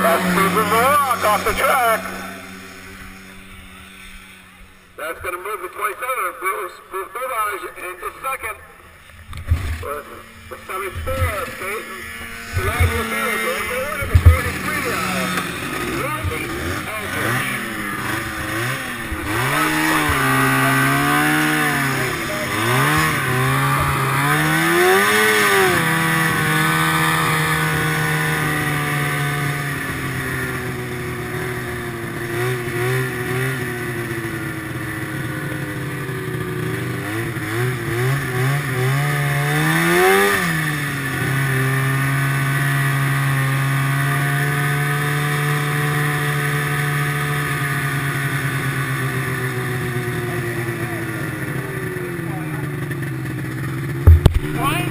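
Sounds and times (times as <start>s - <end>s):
snowmobile engine revving: 0.0s - 54.9s.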